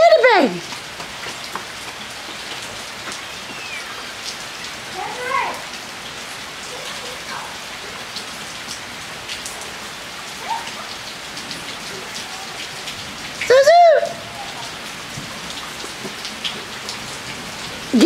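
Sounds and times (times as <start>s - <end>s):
rain with drops ticking: 0.0s - 18.0s.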